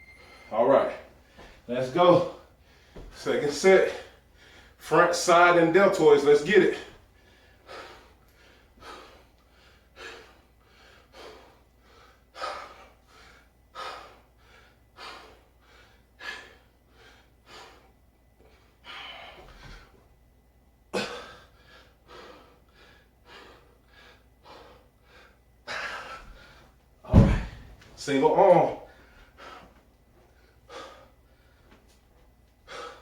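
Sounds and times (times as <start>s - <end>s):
man breathing hard: 0.0s - 3.2s, 4.0s - 4.9s, 6.8s - 20.0s, 21.0s - 26.8s, 28.8s - 33.0s.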